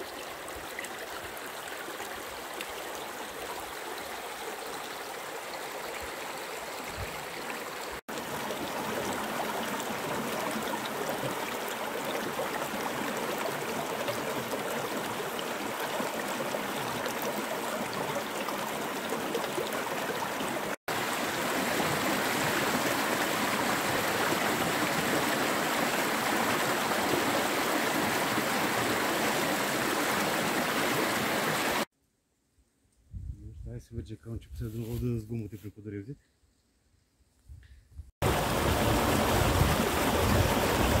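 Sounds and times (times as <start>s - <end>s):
stream rushing over rocks: 0.0s - 31.9s, 38.2s - 41.0s.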